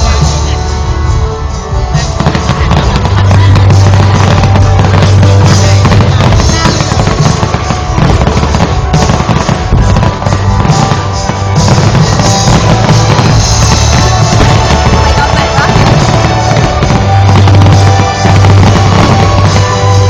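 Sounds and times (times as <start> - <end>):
firework crackling: 0.0 - 20.0
loud music with bass and drums: 0.0 - 20.0
firework bursts: 1.9 - 20.0.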